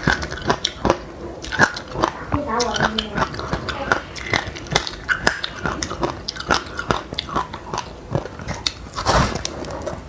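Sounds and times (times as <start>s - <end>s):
person chewing crunchy seeds: 0.0s - 10.0s.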